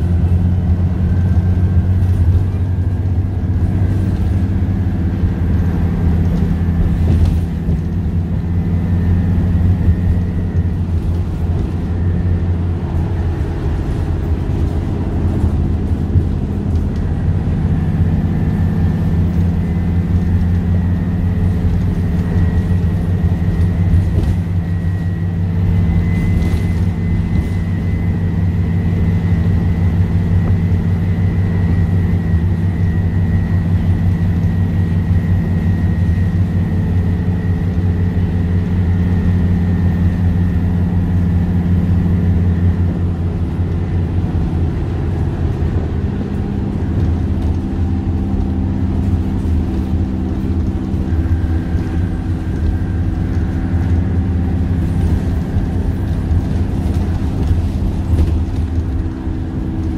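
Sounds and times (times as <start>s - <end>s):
bus engine drone: 0.0s - 59.9s
gearbox whine: 0.0s - 59.9s.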